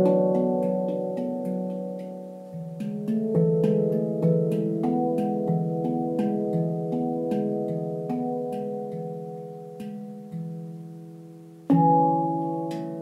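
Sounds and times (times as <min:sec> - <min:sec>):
handpan notes ringing: 0:00.0 - 0:13.0.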